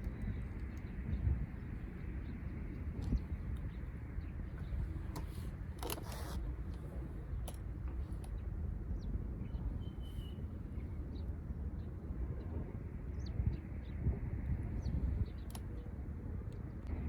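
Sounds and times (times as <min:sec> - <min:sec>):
steady low rumble: 0:00.0 - 0:05.8, 0:06.4 - 0:17.0.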